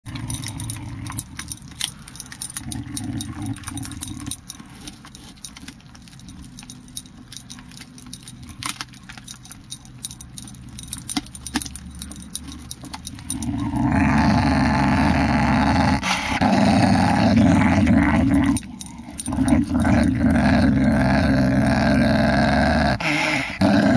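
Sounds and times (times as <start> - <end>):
dog collar tag jingling: 0.1 - 15.3, 16.8 - 23.0
low steady rumble: 0.1 - 23.9.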